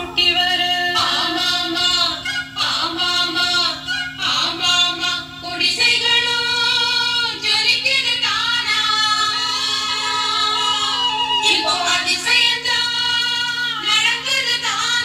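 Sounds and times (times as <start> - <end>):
woman singing song from cassette: 0.0 - 15.0.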